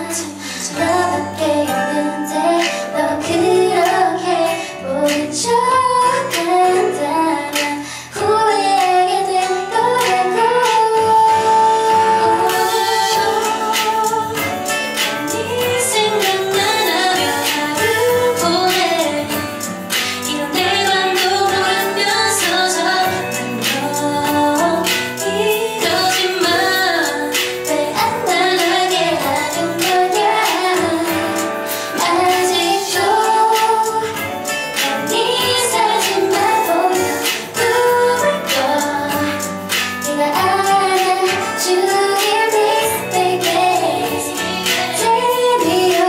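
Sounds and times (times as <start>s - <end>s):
instrumental backing music: 0.0s - 46.0s
women singing into microphones: 0.0s - 46.0s.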